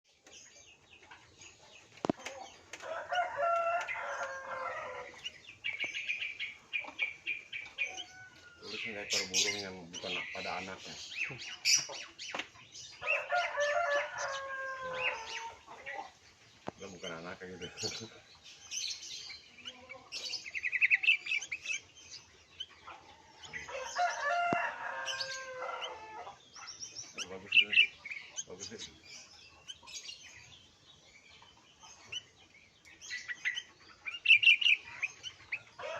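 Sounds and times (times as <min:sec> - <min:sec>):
bulbuls calling: 0:01.3 - 0:30.6, 0:31.7 - 0:35.9.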